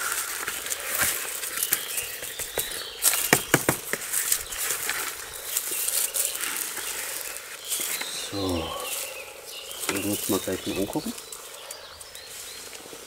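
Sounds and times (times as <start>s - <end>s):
leaves rustling against plastic pot: 0.0s - 13.0s.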